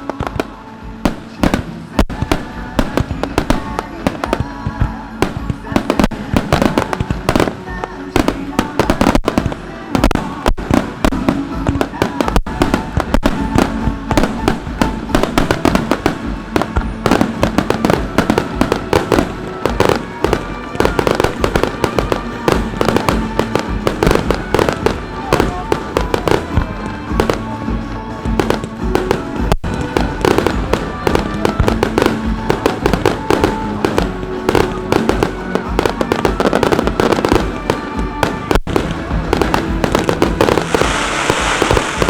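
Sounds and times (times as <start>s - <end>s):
fireworks bursting and crackling: 0.0s - 42.0s
music playing: 0.0s - 42.0s.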